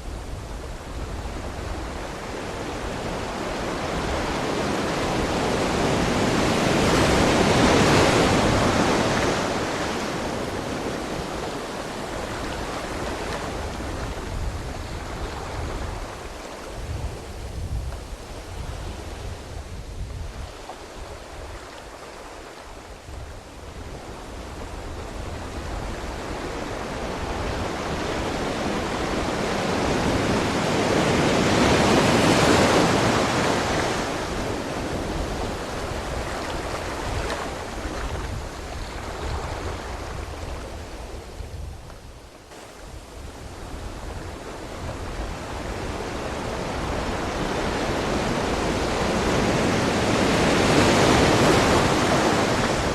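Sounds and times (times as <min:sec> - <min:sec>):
ocean waves breaking: 0:00.1 - 0:52.9.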